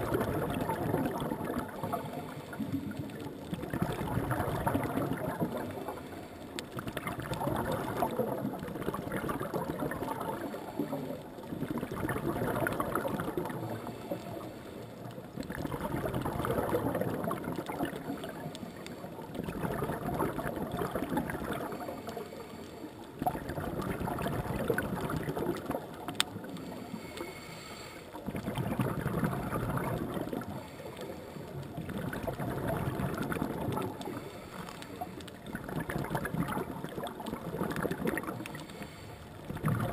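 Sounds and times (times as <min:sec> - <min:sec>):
scuba regulator bubbles burbling: 0:00.0 - 0:27.5, 0:28.1 - 0:39.9.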